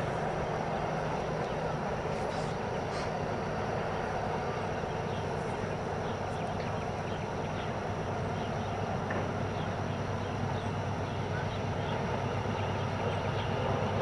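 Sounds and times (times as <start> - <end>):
distant diesel train engine hum: 0.0 - 14.0
outdoor background noise: 0.0 - 14.0.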